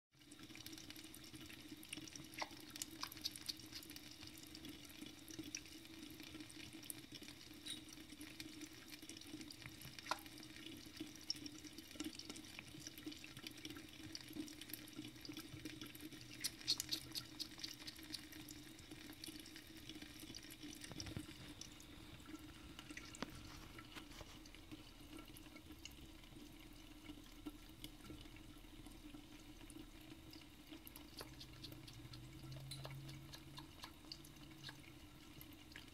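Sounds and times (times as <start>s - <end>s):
cat lapping water: 0.2s - 35.9s
faucet water trickling: 0.2s - 35.9s.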